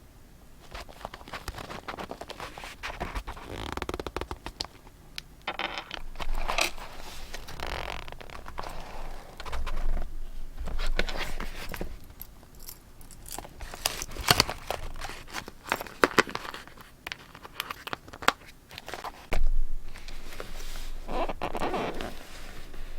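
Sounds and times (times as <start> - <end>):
paper rustling and crinkling: 0.6 - 4.6, 6.0 - 12.2, 13.4 - 22.9.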